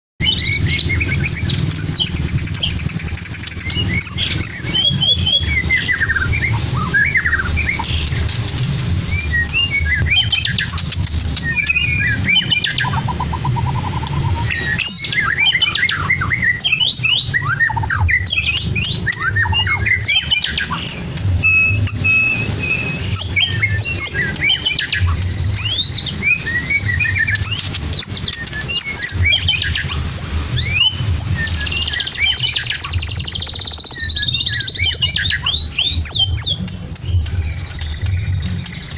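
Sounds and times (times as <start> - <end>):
bird singing varied song: 0.2 - 38.9.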